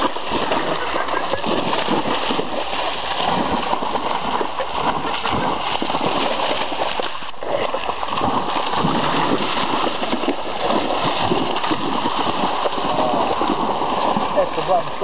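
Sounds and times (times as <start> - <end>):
dogs' paws splashing in water: 0.0 - 15.0
river water rushing: 0.0 - 15.0.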